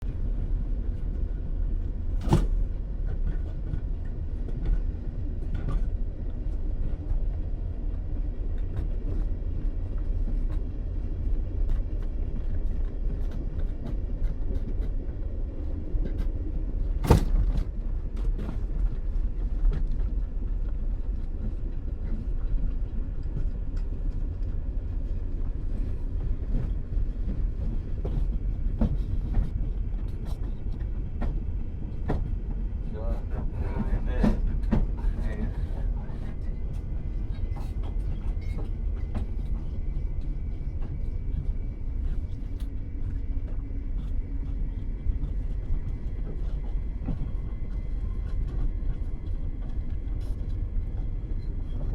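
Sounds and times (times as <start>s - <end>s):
train carriage rumble: 0.0s - 51.9s.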